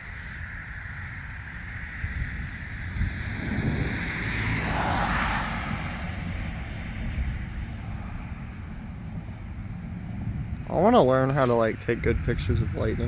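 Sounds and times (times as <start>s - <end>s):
thunder rumbling: 1.2s - 13.0s.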